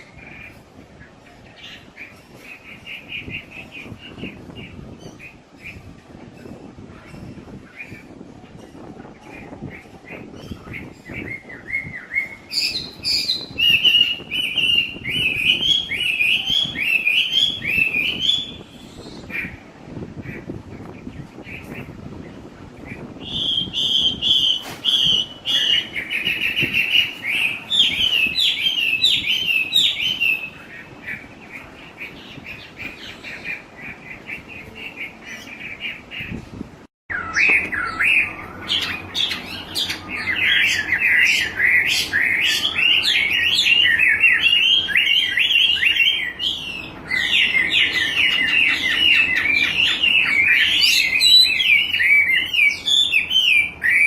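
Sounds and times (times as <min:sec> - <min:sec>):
bird chattering song: 0:00.0 - 0:36.5, 0:37.1 - 0:54.0.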